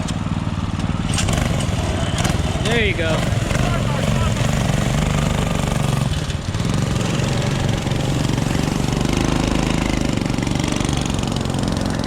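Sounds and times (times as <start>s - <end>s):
two-stroke engine idling: 0.0s - 12.0s.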